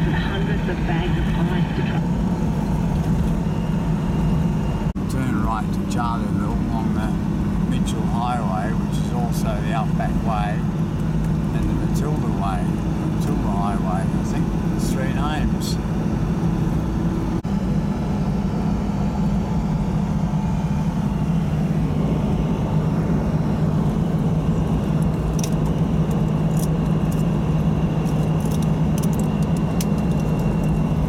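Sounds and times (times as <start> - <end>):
car engine and tyre drone: 0.0 - 31.0.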